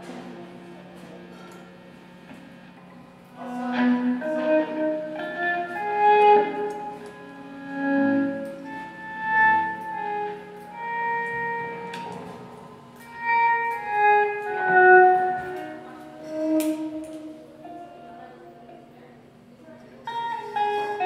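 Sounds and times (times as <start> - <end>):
electric guitars held notes: 0.0 - 21.0.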